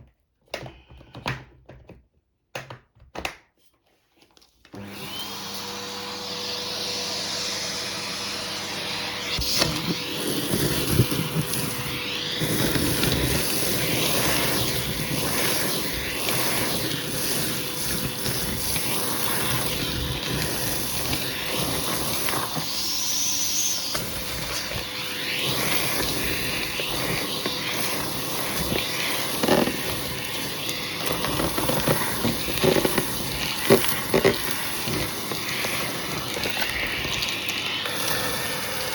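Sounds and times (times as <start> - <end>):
vacuum cleaner running: 4.7 - 38.9.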